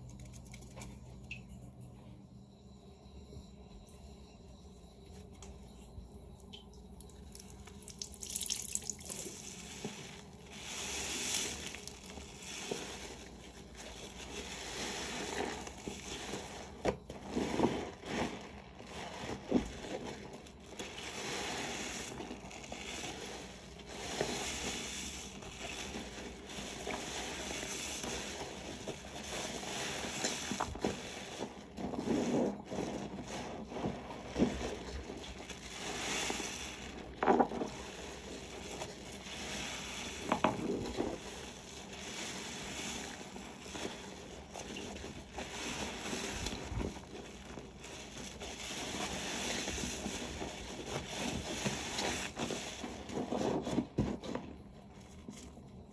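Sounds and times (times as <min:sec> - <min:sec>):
soapy sponge squelching: 0:07.0 - 0:54.0.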